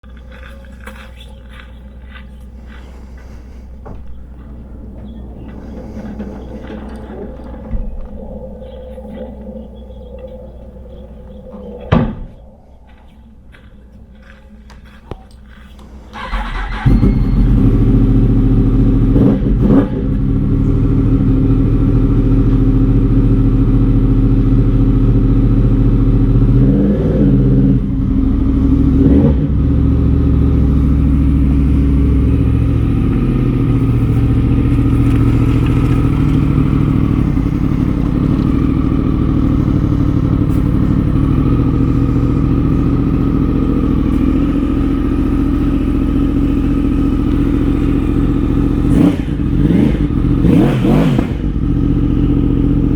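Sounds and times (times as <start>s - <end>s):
motorcycle engine starting and revving: 0.0s - 11.5s, 15.6s - 52.9s.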